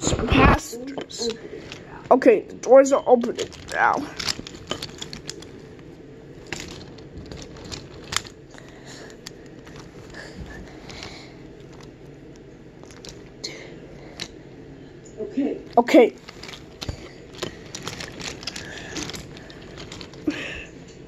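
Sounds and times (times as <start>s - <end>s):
low rustling: 0.0s - 14.7s, 16.1s - 21.0s.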